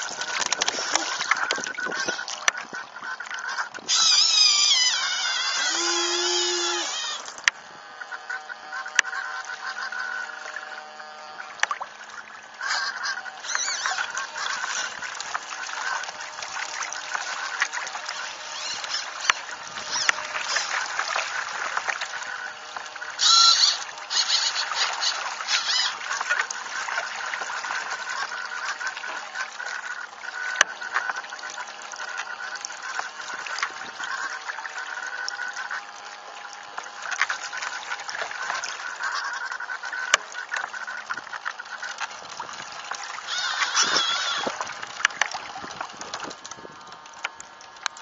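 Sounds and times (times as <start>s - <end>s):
faint steady whine: 0.0s - 48.0s
water rushing past hulls: 0.0s - 48.0s.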